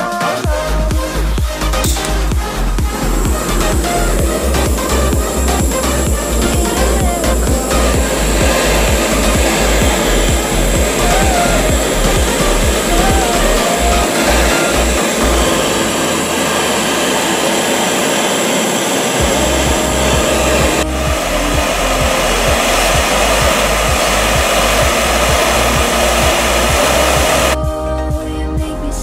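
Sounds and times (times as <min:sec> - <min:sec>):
electronic music with beat: 0:00.0 - 0:17.5, 0:19.2 - 0:28.8
gas torch flame hissing: 0:02.9 - 0:27.6.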